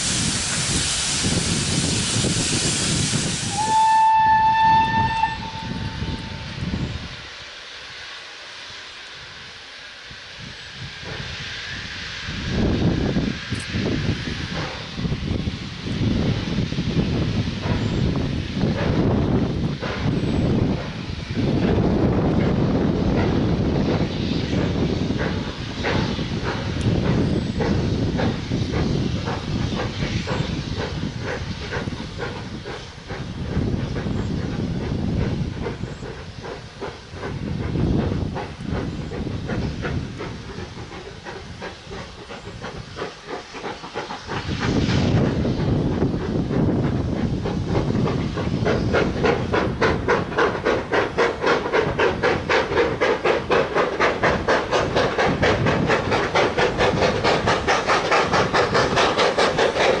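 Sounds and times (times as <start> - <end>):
steam locomotive chuffing: 0.0 - 60.0.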